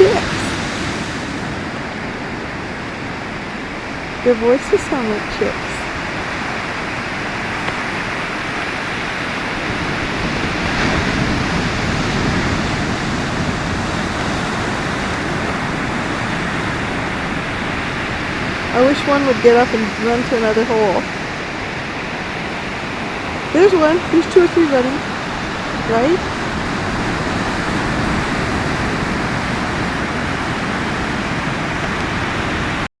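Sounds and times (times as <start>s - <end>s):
steady rushing noise: 0.0s - 32.9s.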